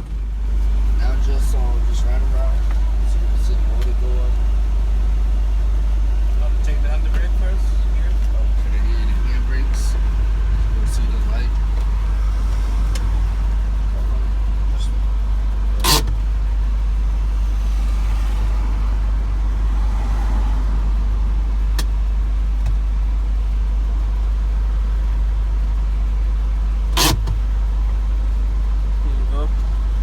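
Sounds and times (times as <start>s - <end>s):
truck idling: 0.0s - 30.0s.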